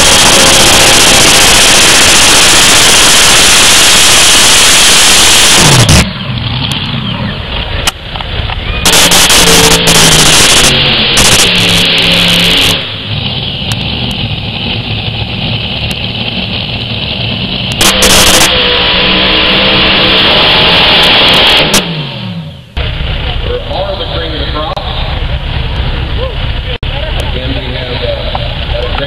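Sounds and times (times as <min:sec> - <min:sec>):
pulling tractor engines roaring: 0:00.0 - 0:29.0.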